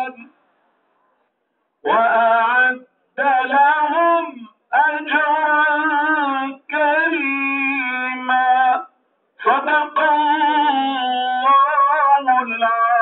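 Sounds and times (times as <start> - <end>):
person singing a hymn: 1.8 - 13.0.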